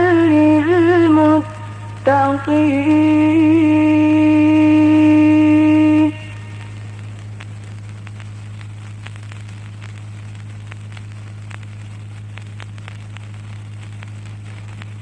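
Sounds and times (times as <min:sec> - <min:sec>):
faint crackling clicks: 0:00.0 - 0:15.0
low electrical hum: 0:00.0 - 0:15.0.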